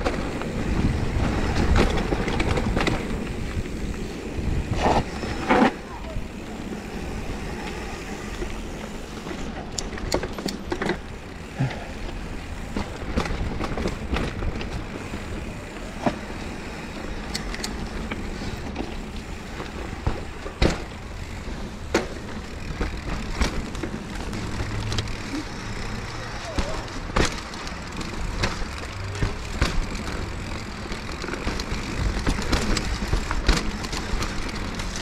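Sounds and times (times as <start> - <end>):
bike clattering over bumps: 0.0 - 35.0
bike tyres rumbling on dirt: 0.0 - 35.0.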